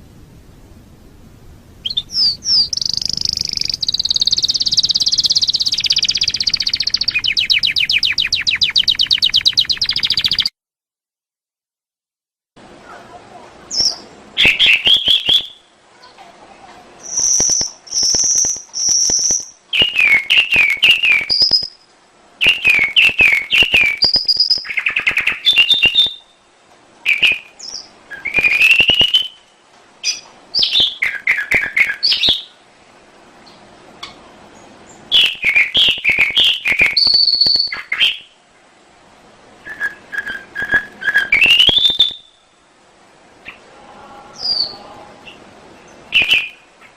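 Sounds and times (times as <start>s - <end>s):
canary singing: 1.8s - 10.5s, 13.7s - 16.2s, 17.0s - 32.6s, 33.4s - 38.4s, 39.6s - 42.6s, 43.4s - 46.9s.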